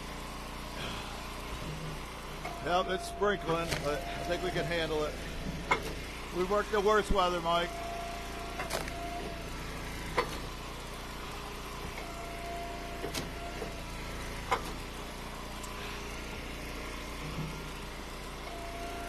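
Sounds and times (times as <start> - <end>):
gas engine running: 0.0 - 19.0
hydraulic ram whine: 0.0 - 19.0.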